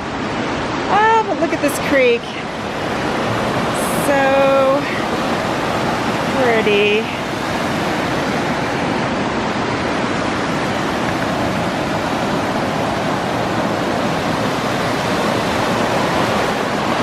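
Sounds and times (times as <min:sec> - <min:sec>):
creek rushing over rocks: 0:00.0 - 0:17.0.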